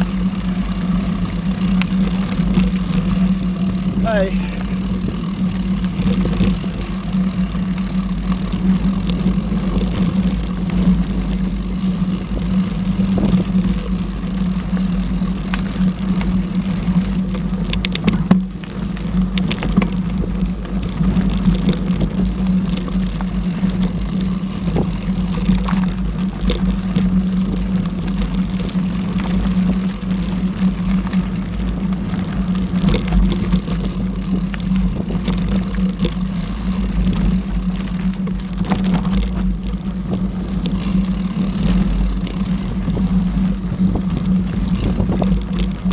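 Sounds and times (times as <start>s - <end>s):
bike tyres rumbling on dirt: 0.0s - 45.9s.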